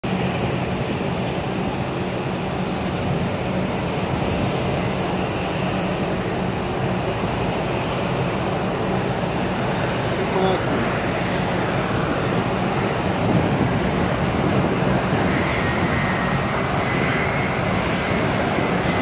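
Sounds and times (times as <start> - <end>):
distant jet engines roaring: 0.0 - 19.0.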